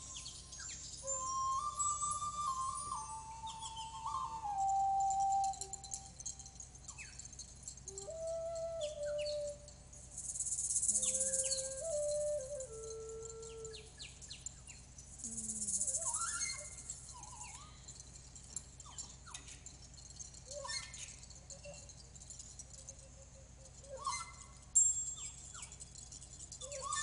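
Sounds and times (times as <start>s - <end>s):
light rattling: 0.0s - 27.0s
shaker rattles: 0.0s - 27.0s.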